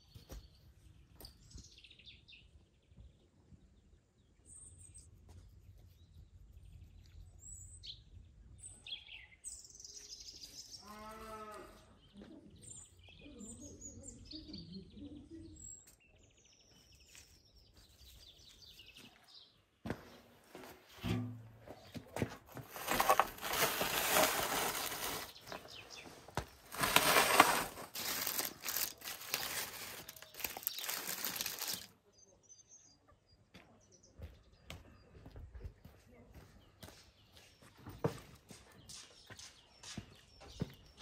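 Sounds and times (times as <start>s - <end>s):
small birds chirping: 0.0s - 20.9s, 21.6s - 41.0s.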